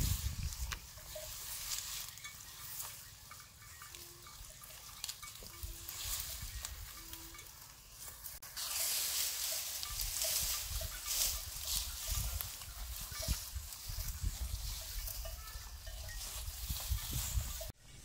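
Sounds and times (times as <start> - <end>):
grass stems rustling and tearing: 0.0 - 3.0, 3.9 - 17.6.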